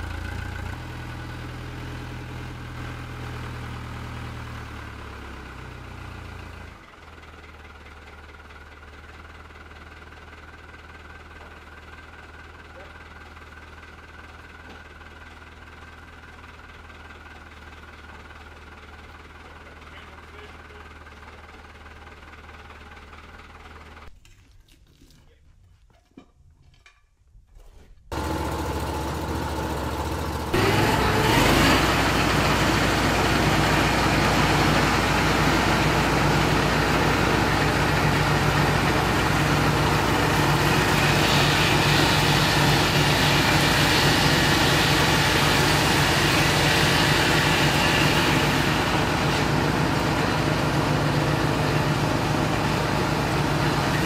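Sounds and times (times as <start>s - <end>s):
sawmill petrol engine revving: 0.0s - 24.1s, 28.1s - 54.0s.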